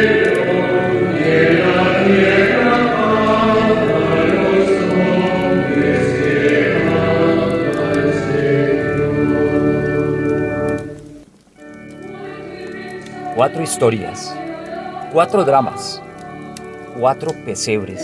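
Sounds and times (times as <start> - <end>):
choir holding long notes: 0.0 - 18.0.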